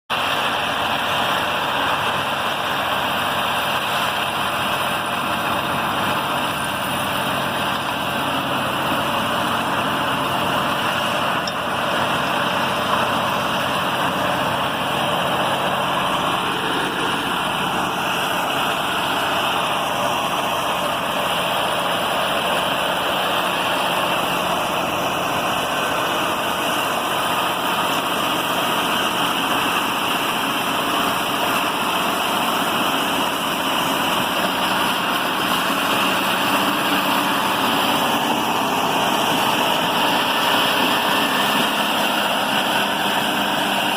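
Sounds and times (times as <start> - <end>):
bulldozer diesel engine running: 0.1 - 43.9.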